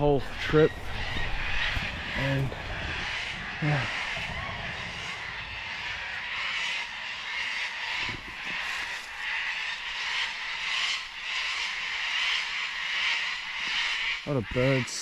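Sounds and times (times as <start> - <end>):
many birds chattering: 0.0 - 15.0.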